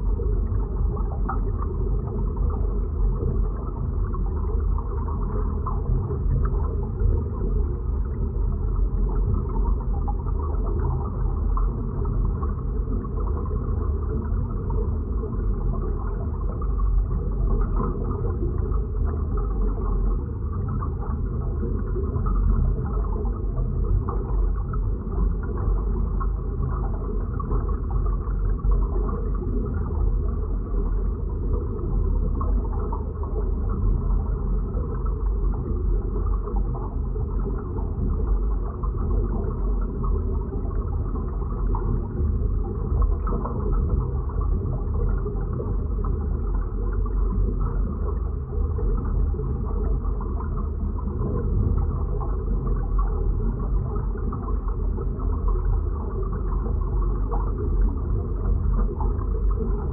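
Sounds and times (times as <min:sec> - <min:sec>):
deep muffled rumble: 0:00.0 - 0:59.9.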